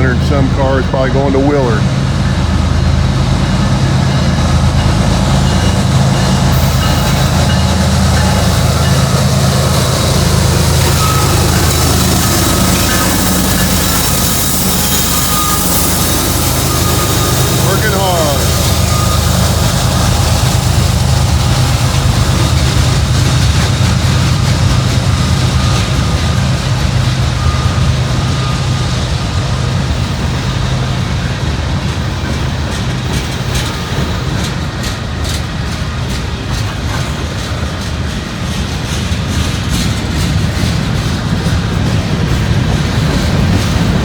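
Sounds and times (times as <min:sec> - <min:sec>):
locomotive engine drone: 0:00.0 - 0:44.0
train wheels clicking over rail joints: 0:00.0 - 0:44.0.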